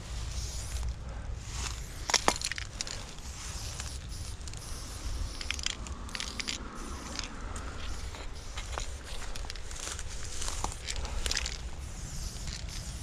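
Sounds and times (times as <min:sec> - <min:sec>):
steady low rumble: 0:00.0 - 0:13.0
spray-paint can hissing: 0:00.1 - 0:00.9, 0:01.5 - 0:13.0.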